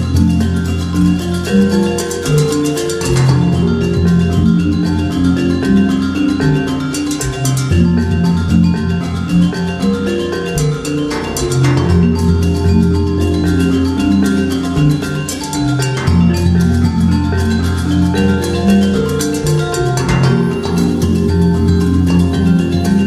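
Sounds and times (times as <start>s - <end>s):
pitched percussion music: 0.0s - 23.0s
steady bass line: 0.0s - 23.0s.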